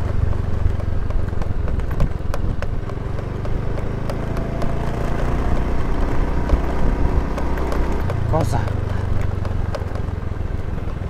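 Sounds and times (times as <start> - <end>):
scooter engine running: 0.0 - 11.0
sharp clicks and knocks: 0.0 - 11.0.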